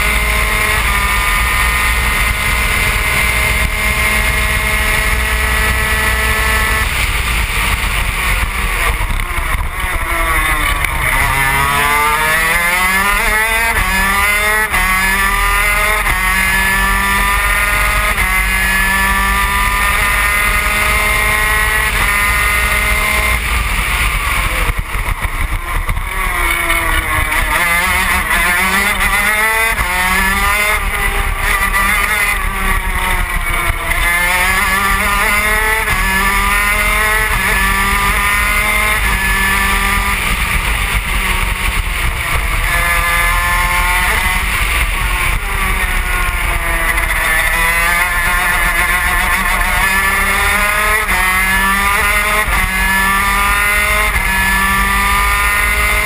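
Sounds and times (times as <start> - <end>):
two-stroke kart engine revving: 0.0 - 56.0.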